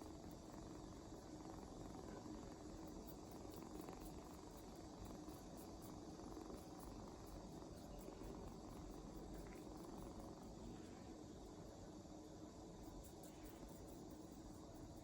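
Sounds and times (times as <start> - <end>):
kitten purring faintly: 0.0 - 15.0.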